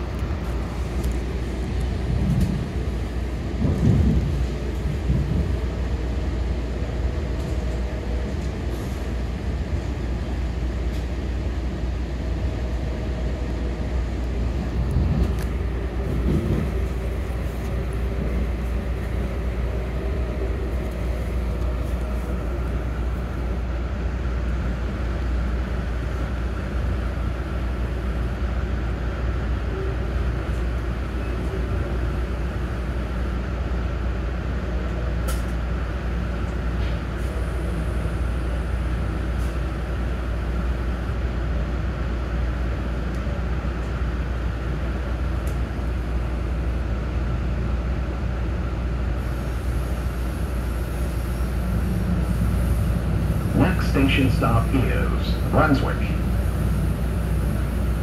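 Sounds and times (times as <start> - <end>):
train rumble and rail noise: 0.0 - 58.0.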